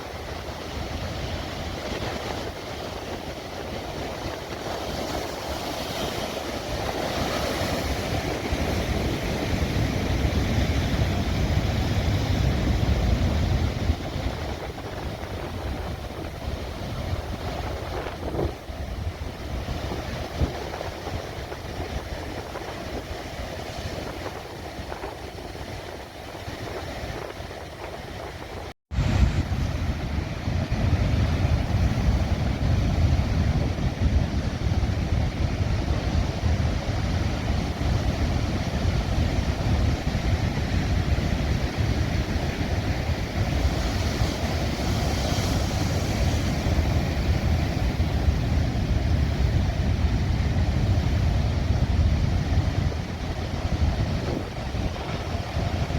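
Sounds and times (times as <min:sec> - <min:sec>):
heavy surf on rocks: 0:00.0 - 0:55.9
wind buffeting microphone: 0:00.0 - 0:55.9.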